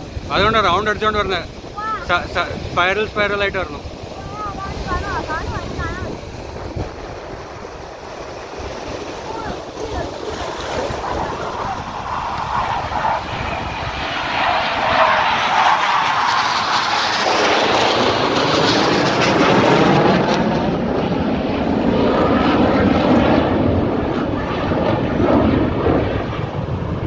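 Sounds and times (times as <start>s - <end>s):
jet aircraft passing overhead: 0.0s - 27.0s.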